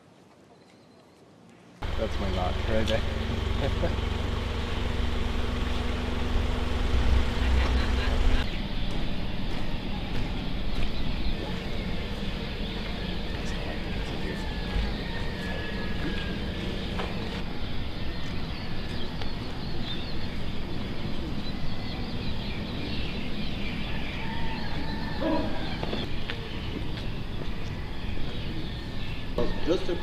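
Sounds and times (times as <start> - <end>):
small birds chirping: 0.4 - 30.0
outdoor background rumble: 1.8 - 30.0.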